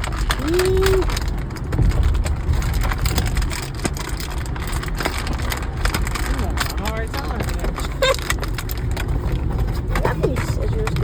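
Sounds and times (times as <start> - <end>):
car rumble: 0.0 - 11.0
plastic packaging crinkling: 0.0 - 11.0.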